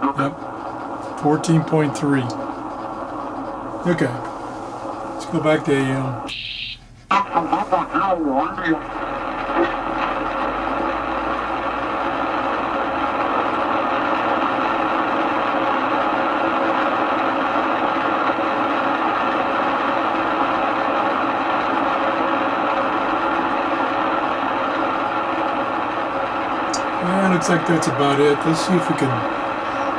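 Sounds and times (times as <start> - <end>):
radio static hiss: 0.0 - 29.9.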